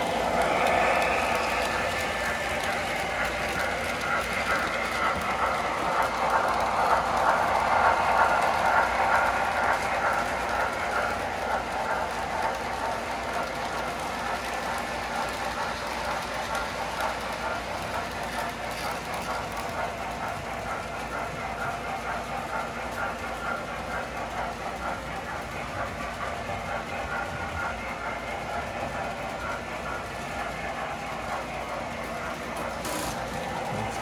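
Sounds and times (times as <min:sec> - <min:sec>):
wheels rolling on metal track: 0:00.0 - 0:21.8, 0:22.4 - 0:34.0
model train motors whirring: 0:00.0 - 0:34.0.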